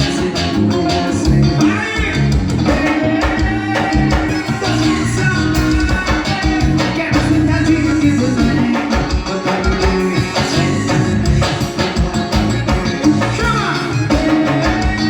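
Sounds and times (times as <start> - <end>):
band music with driving beat: 0.0 - 15.0.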